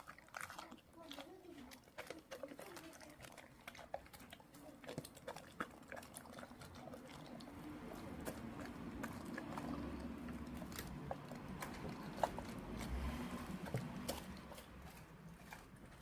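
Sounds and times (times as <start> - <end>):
pets chewing meat: 0.0 - 16.0.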